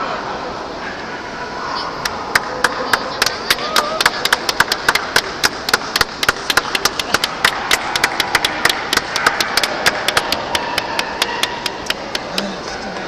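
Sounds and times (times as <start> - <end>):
hall background noise: 0.0 - 13.0.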